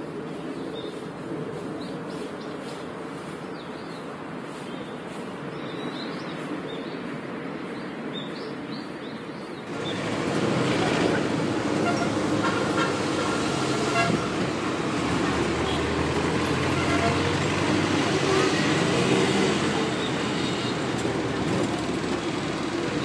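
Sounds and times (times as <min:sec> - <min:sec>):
outdoor background noise: 0:00.0 - 0:23.0
street traffic noise: 0:00.0 - 0:23.0.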